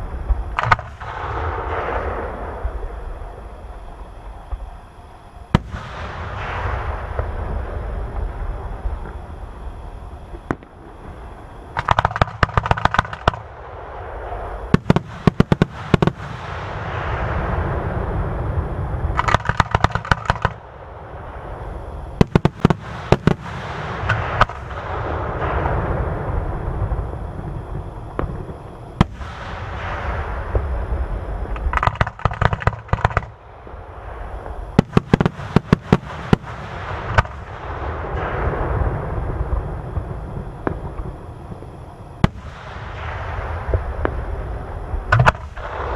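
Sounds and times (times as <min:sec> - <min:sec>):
fireworks sharp cracks: 0:00.0 - 0:09.3, 0:10.2 - 0:45.9
rumble of fireworks booms: 0:00.0 - 0:45.9.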